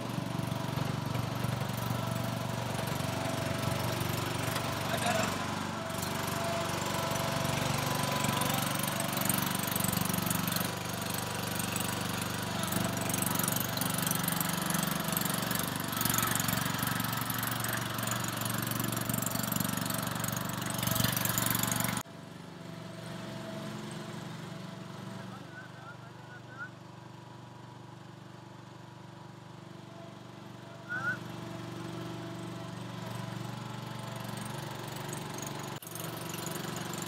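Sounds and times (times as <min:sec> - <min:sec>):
small petrol engine running: 0:00.0 - 0:37.0.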